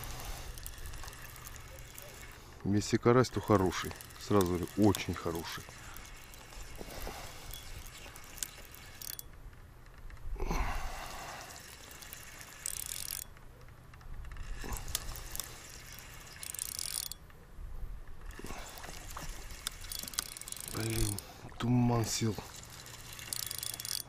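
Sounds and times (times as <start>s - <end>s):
fishing reel clicking: 0.0s - 10.3s, 10.9s - 17.3s, 18.0s - 21.3s, 21.9s - 24.0s.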